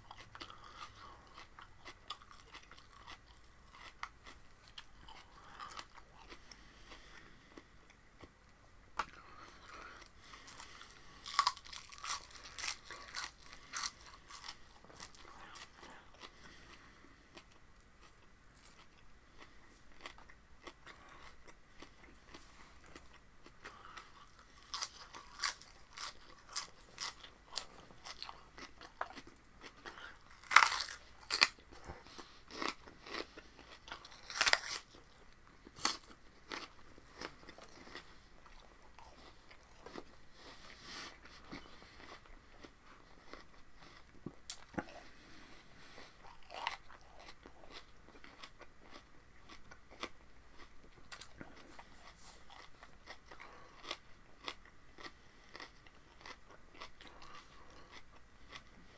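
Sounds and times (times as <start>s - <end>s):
crunching and chewing spinach: 0.0s - 58.9s.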